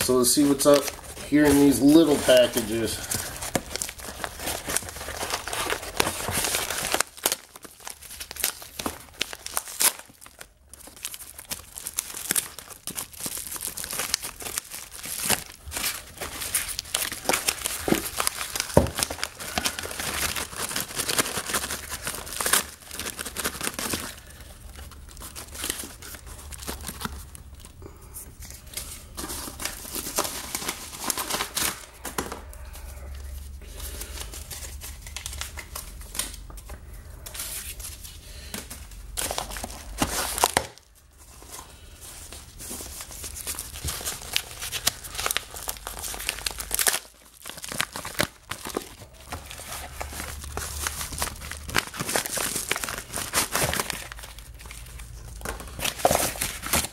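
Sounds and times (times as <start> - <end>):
paper crinkling and tearing: 0.0 - 27.8, 28.4 - 56.9.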